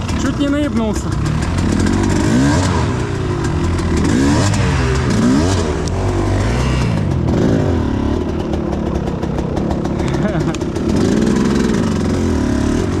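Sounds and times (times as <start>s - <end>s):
clatter: 0.0s - 13.0s
motorcycle engine revving: 0.0s - 13.0s.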